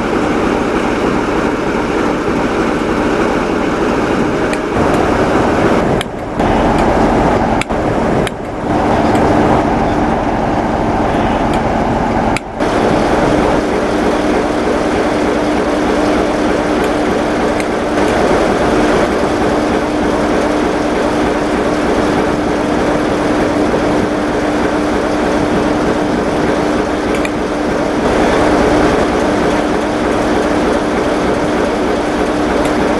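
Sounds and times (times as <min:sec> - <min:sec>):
locomotive engine idling: 0:00.0 - 0:32.9.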